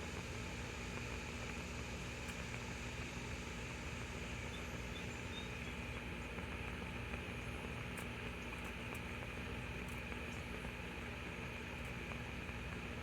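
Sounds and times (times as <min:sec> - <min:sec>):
stove burning with hiss: 0:00.0 - 0:13.0.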